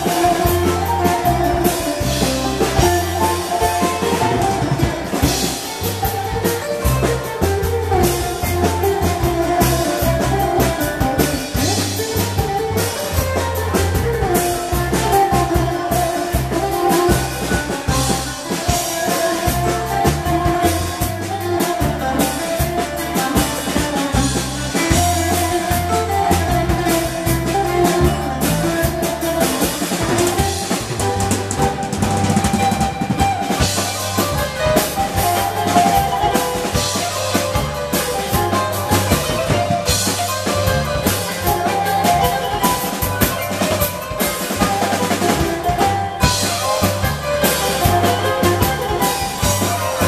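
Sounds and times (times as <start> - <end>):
bouzouki melody: 0.0 - 50.0
drum kit steady beat: 0.0 - 50.0.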